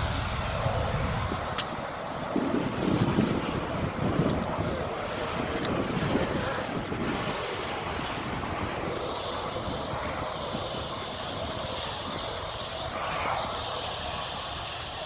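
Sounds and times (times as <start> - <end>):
gas venting and burning roar: 0.0 - 15.0.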